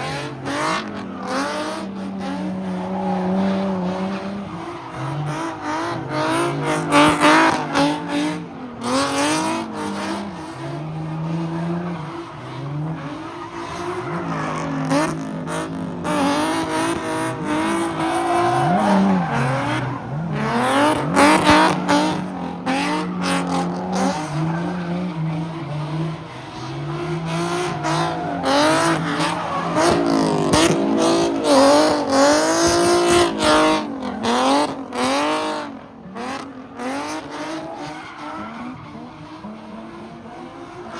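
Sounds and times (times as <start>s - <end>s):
car engine revving: 0.0s - 40.9s
tires squealing on pavement: 0.0s - 40.9s.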